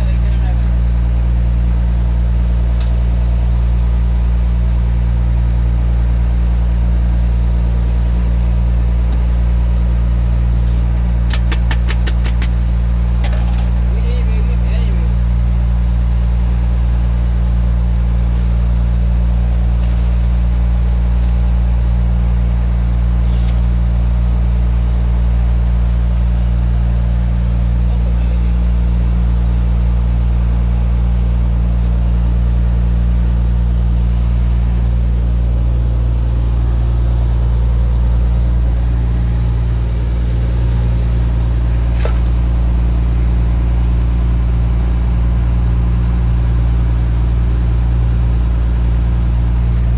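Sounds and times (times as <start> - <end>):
boat engine drone: 0.0 - 49.9
thin high whine: 0.0 - 49.9.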